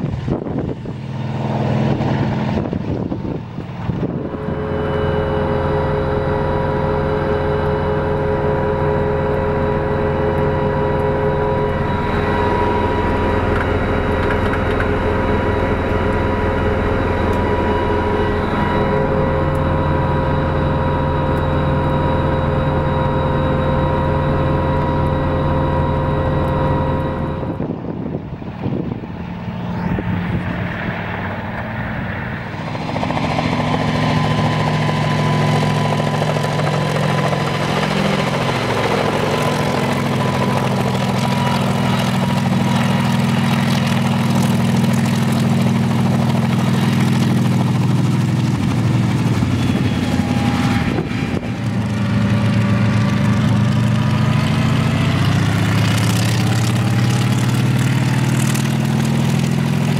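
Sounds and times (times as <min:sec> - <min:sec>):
helicopter engines and rotors droning: 0:00.0 - 0:59.9.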